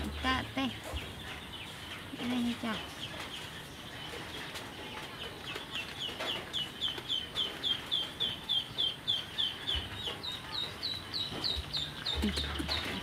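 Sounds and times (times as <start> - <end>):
chick peeping: 0.0 - 13.0.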